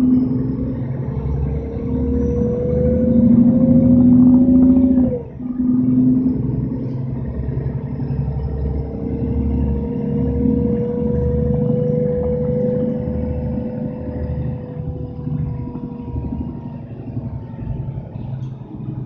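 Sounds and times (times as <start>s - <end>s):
bus engine rumble and whine: 0.0s - 19.0s.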